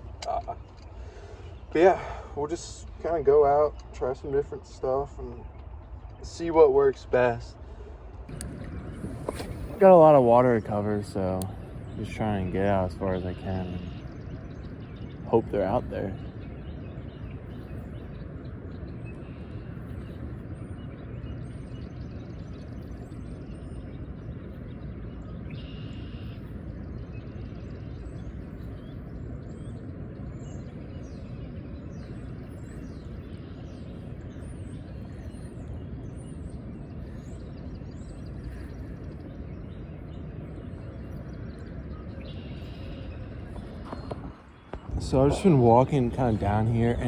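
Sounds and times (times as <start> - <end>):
small birds chirping: 0.0 - 47.0
steady rushing outdoor noise: 0.0 - 47.0.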